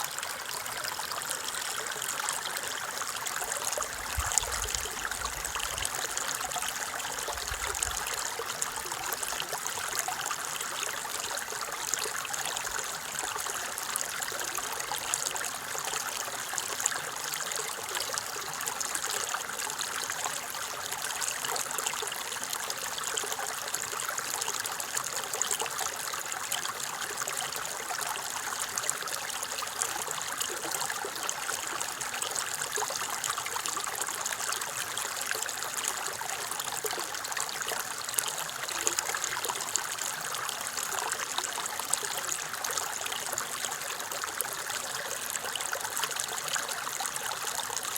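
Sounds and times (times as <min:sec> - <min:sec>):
stream trickling over stones: 0:00.0 - 0:47.9.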